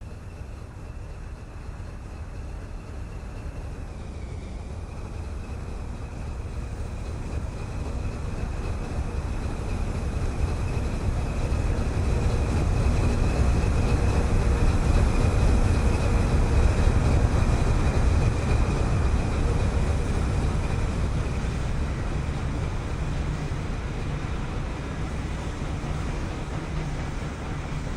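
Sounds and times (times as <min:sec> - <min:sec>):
freight locomotive rumbling: 0:00.0 - 0:27.9.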